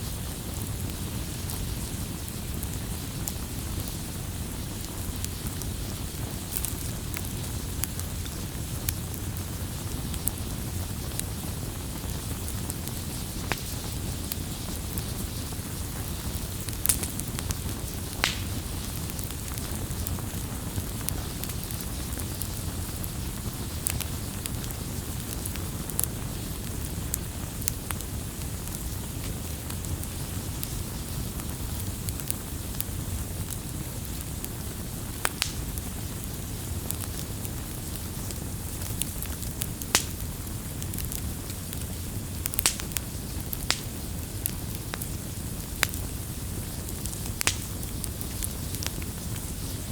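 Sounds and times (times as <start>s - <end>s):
burning wood crackling and popping: 0.0s - 49.9s
low rumble of flames: 0.0s - 49.9s.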